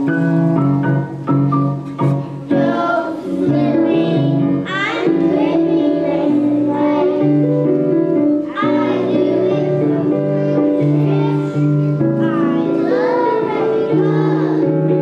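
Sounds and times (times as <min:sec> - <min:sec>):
instrumental accompaniment: 0:00.0 - 0:15.0
children singing: 0:02.2 - 0:15.0.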